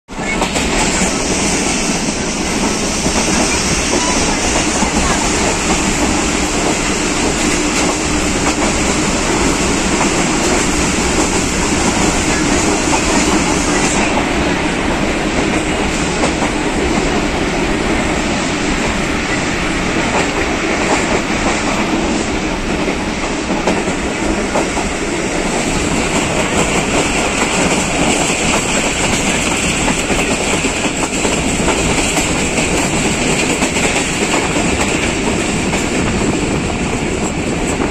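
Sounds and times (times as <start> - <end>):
clickety-clack over rail joints: 0.1 - 37.9
train wheels rumbling on track: 0.1 - 37.9.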